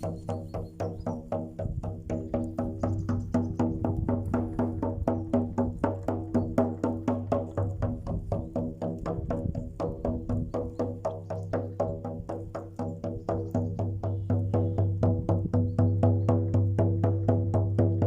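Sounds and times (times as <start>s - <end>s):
rhythmic drumming: 0.0s - 18.0s.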